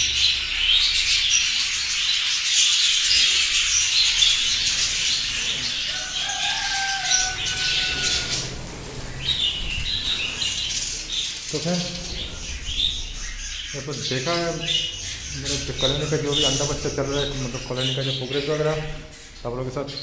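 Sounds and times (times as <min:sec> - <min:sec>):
budgerigars chattering: 0:00.0 - 0:20.0.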